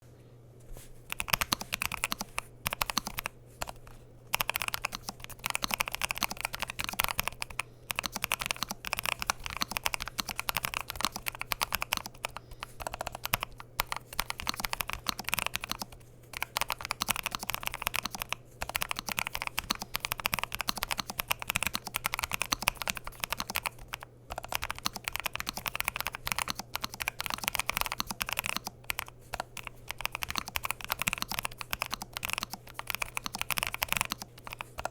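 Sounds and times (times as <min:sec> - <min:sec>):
steady low hum: 0:00.0 - 0:34.9
mechanical keyboard typing: 0:01.1 - 0:34.9.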